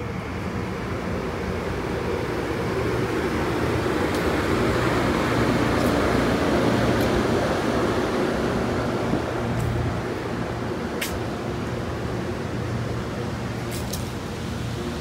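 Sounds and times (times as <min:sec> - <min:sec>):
train equipment hum: 0:00.0 - 0:15.0
train wheels rumbling on rail: 0:00.0 - 0:15.0.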